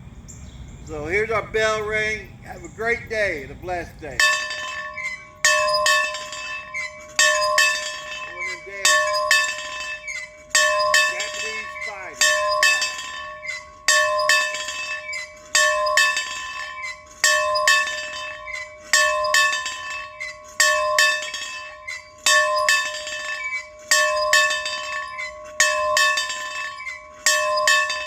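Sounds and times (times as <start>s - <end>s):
bell ringing: 4.0s - 28.0s.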